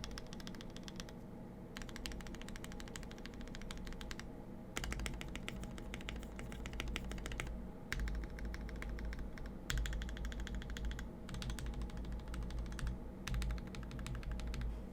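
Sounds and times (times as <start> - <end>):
mechanical keyboard typing: 0.0 - 1.1, 1.8 - 4.2, 4.8 - 14.7.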